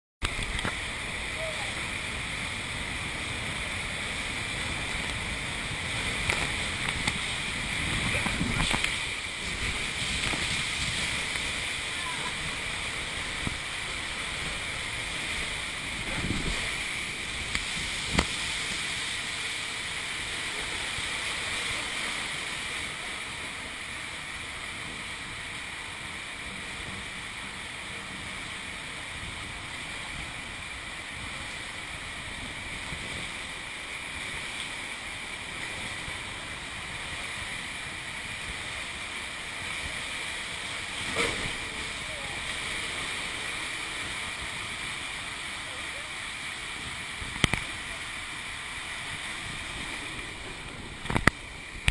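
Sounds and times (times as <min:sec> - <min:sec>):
water rushing down slide: 0:00.2 - 0:51.9.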